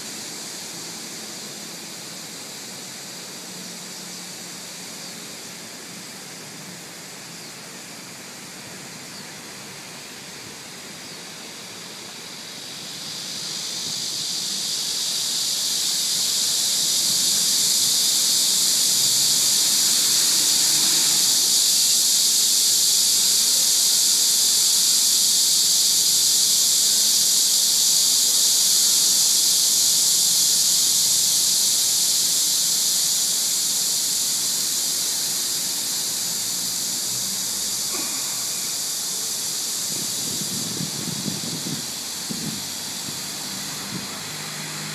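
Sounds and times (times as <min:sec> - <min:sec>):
cicadas buzzing: 0:00.0 - 0:44.9.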